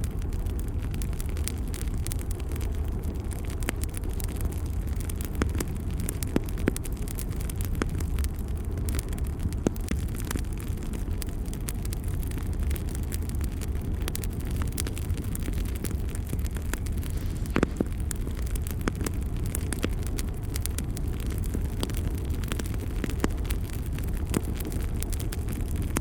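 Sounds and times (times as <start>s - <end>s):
fire crackling and popping: 0.0s - 26.0s
fire rumbling: 0.0s - 26.0s.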